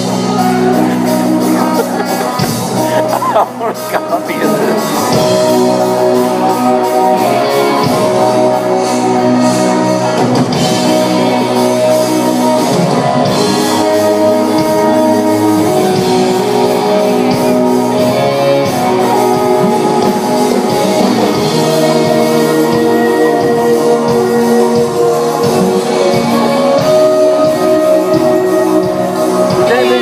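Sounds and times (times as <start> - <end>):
loud guitar music: 0.0 - 30.0.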